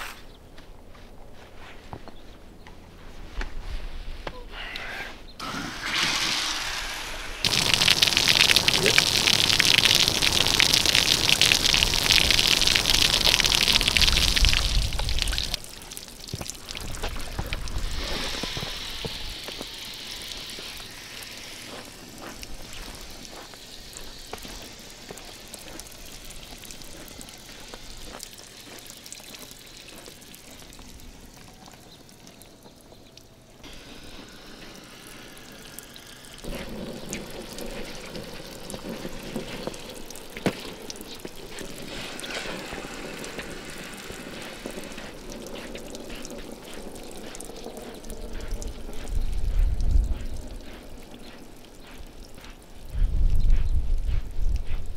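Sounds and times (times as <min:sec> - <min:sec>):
water gushing from hose: 0:05.4 - 0:54.9
water trickling and dripping: 0:07.4 - 0:54.9.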